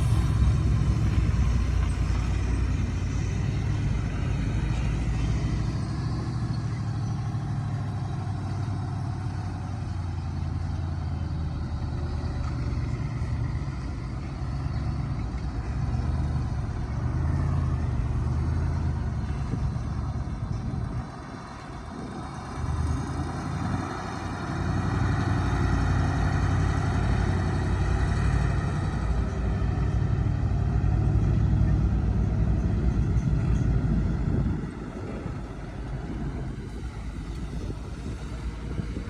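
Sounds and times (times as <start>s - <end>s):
diesel machinery engine drone: 0.0s - 39.0s.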